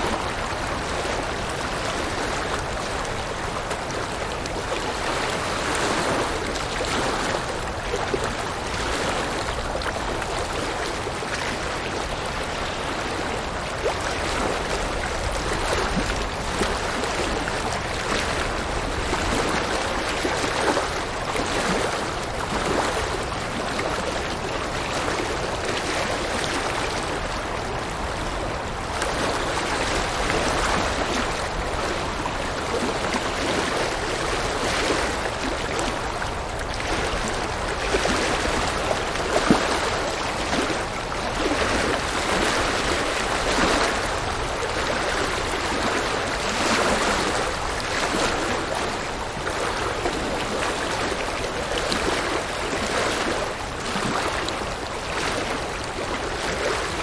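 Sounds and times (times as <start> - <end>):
river water running over rocks: 0.0 - 57.0.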